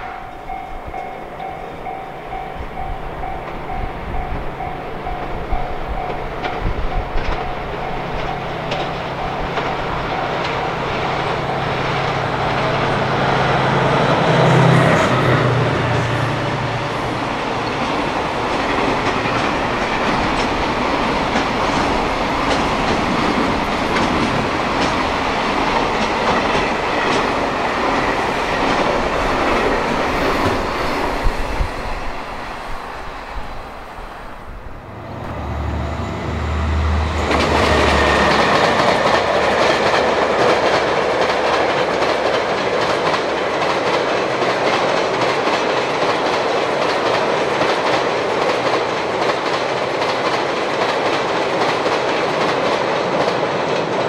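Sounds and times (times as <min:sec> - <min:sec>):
train wheels clattering over rails: 0:00.0 - 0:32.9, 0:34.9 - 0:54.0.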